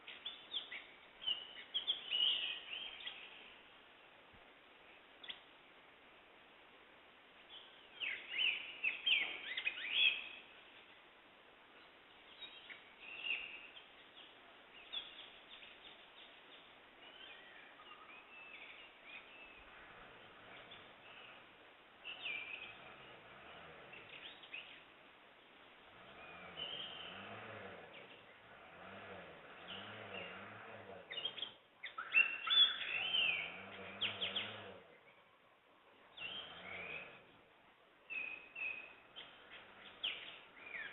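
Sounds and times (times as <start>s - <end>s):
forest birds singing and calling: 0.0s - 4.2s, 4.8s - 5.6s, 7.4s - 40.9s.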